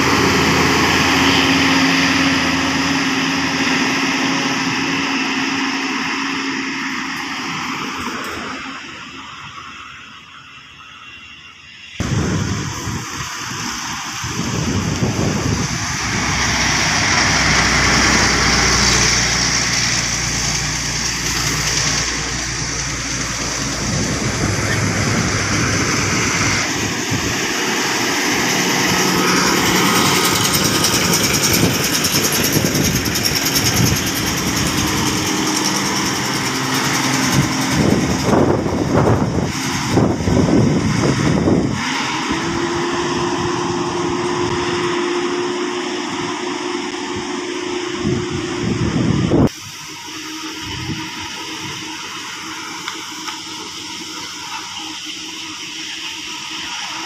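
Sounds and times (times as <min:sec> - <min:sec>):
heavy diesel engines pulling uphill: 0:00.0 - 0:57.0.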